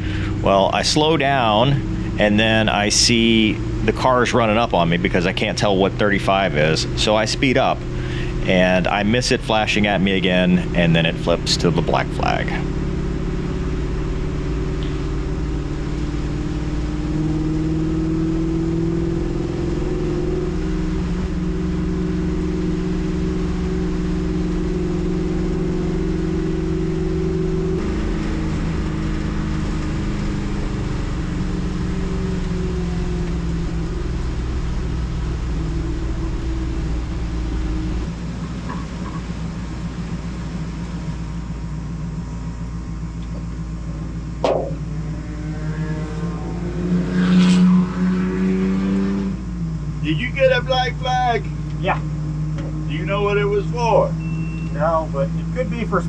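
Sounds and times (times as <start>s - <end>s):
race car engine from cockpit: 0.0s - 56.0s.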